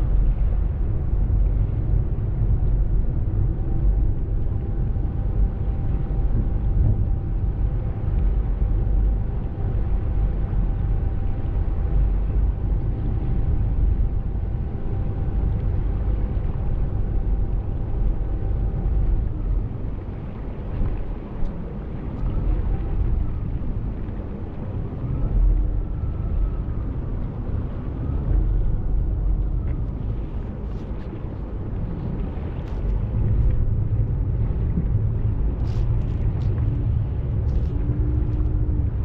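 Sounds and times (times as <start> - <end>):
faint constant hum: 0.0 - 39.0
ferry engine rumble: 0.0 - 39.0.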